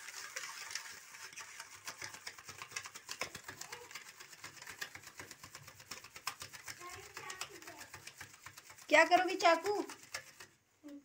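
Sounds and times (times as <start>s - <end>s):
spoon clicking and scraping metal plate: 0.0s - 10.6s.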